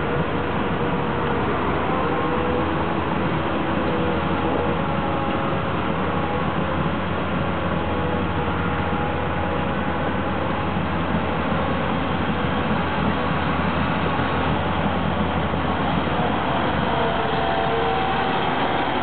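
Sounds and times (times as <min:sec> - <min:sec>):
construction machinery diesel drone: 0:00.0 - 0:19.0.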